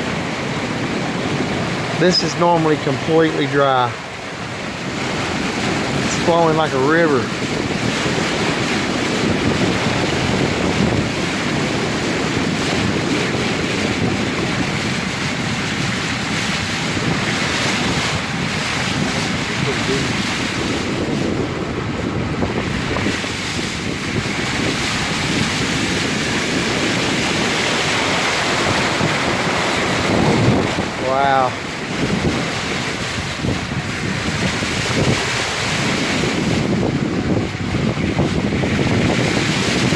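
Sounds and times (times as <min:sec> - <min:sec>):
floodwater rushing: 0:00.0 - 0:39.9
wind buffeting microphone: 0:00.0 - 0:39.9.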